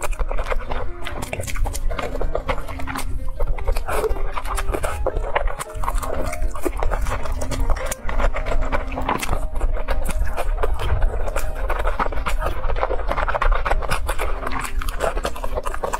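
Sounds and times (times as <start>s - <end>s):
woman chewing and slurping noodles: 0.0s - 15.9s.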